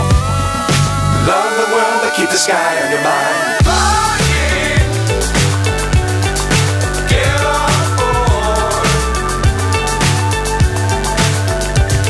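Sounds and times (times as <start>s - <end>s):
pop music: 0.0s - 12.0s.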